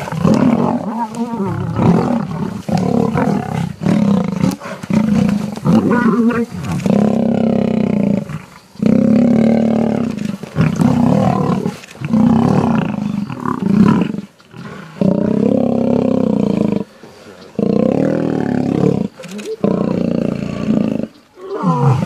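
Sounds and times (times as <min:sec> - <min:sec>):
lions roaring: 0:00.0 - 0:22.0.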